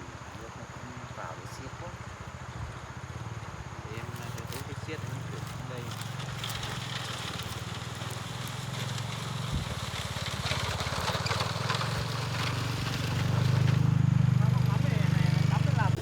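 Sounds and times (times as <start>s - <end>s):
engine running with pulsing hum: 0.0s - 16.0s.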